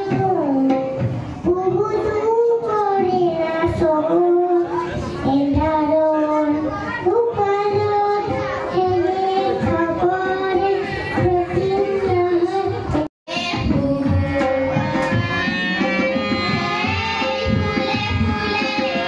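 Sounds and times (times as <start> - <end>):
hand drums: 0.0 - 4.2, 6.7 - 19.0
child singing into a microphone: 0.0 - 19.0
girls singing together: 0.0 - 19.0.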